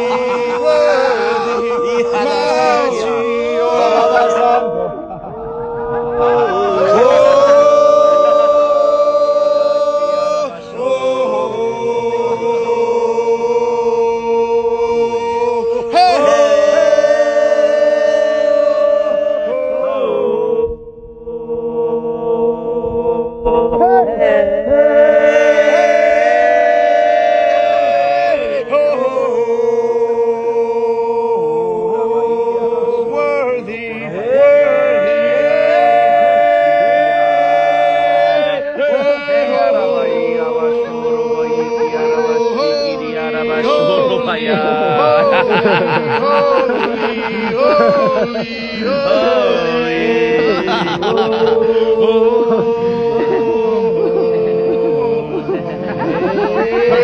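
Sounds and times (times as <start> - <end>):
voices droning in chant: 0.0 - 57.0.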